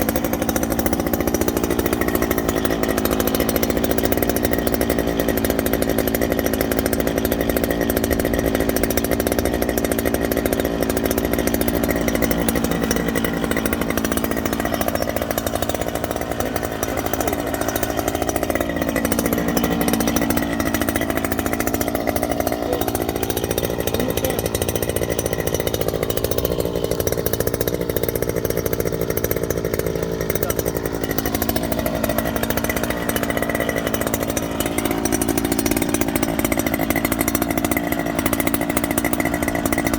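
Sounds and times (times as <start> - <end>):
earth auger engine drilling: 0.0 - 39.9.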